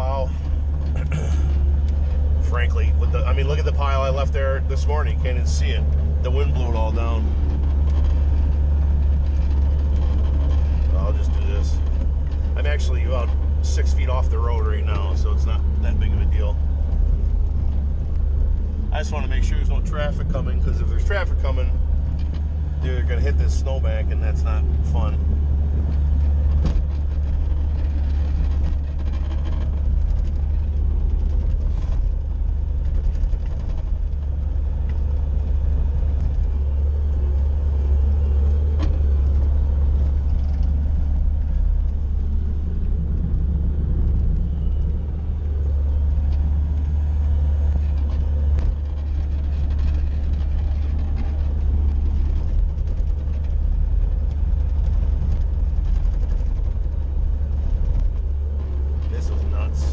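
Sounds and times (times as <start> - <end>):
loader engine droning: 0.0 - 59.9.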